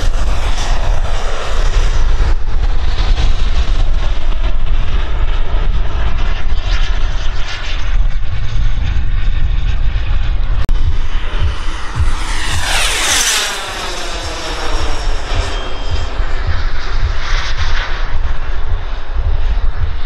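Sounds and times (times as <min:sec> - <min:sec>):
model jet turbine whine: 0:00.0 - 0:19.0.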